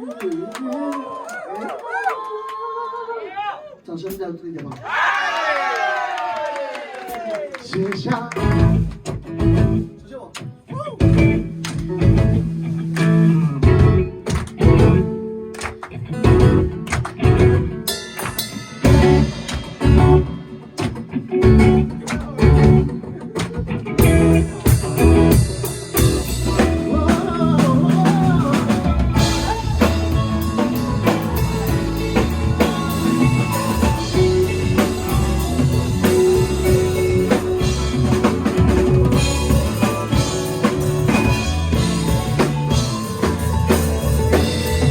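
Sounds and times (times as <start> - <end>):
band with drums and guitars: 7.0 - 44.9.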